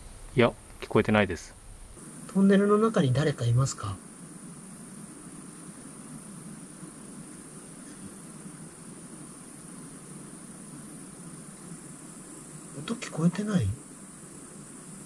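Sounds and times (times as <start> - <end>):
crickets chirring: 0.0 - 15.0
faint background hiss: 0.0 - 15.0.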